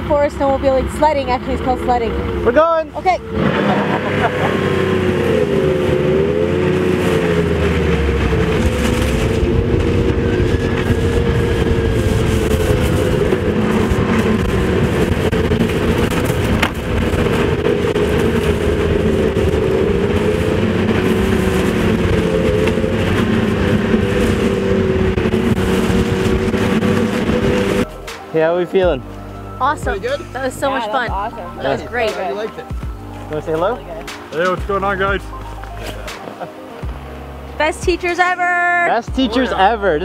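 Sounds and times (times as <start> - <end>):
steady rushing noise: 0.0 - 39.8
snowmobile engine running: 0.0 - 40.0.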